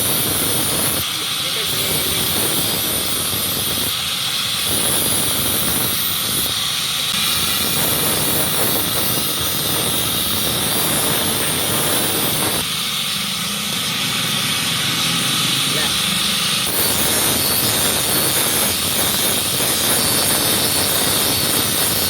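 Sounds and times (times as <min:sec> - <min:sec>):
knife grinding on sharpening wheel: 0:00.0 - 0:22.0.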